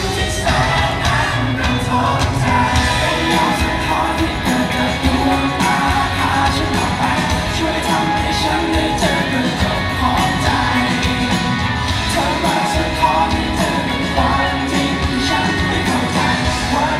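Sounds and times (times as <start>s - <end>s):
lead singer singing: 0.0s - 16.9s
live rock band playing: 0.0s - 16.9s.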